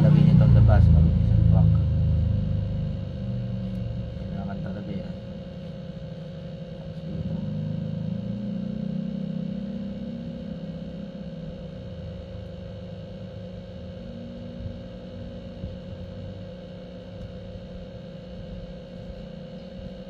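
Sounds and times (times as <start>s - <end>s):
faint steady tone: 0.0s - 20.0s
low hum: 0.0s - 20.0s.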